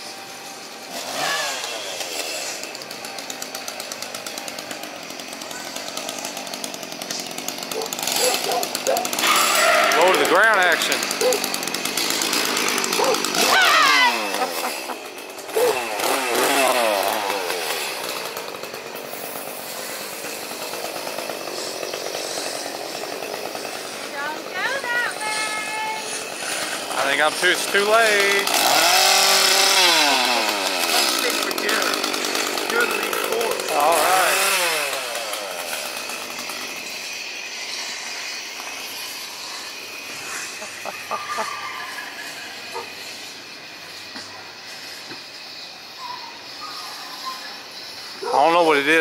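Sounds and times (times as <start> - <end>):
chainsaw engine running: 0.0 - 49.0.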